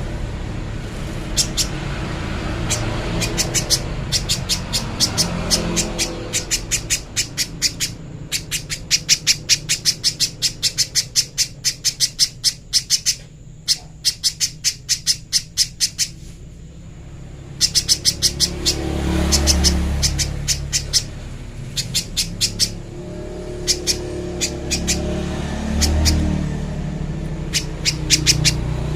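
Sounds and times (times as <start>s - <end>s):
bird calling high chips: 1.0s - 28.9s.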